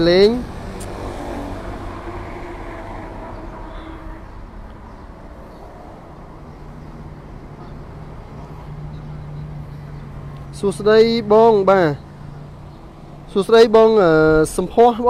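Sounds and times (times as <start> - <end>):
vehicles and motorbikes on road: 0.0 - 15.0.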